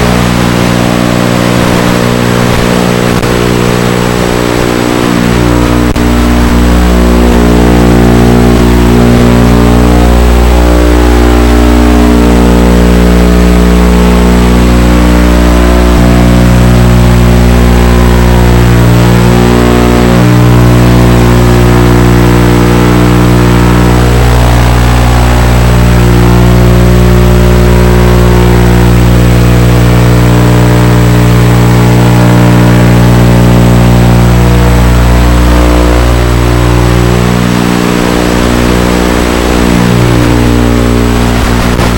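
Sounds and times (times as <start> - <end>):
thin high whine: 0.0 - 41.9.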